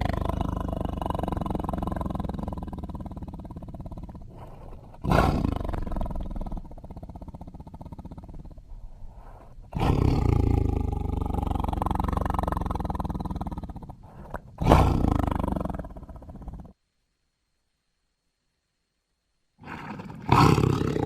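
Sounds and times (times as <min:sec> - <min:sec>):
tiger growling: 0:00.0 - 0:16.8, 0:19.6 - 0:21.0
tiger roaring: 0:00.0 - 0:16.8, 0:19.6 - 0:21.0.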